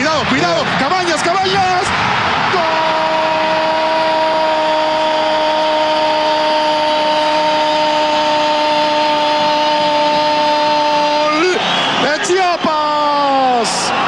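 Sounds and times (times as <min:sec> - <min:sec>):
stadium crowd noise: 0:00.0 - 0:14.0.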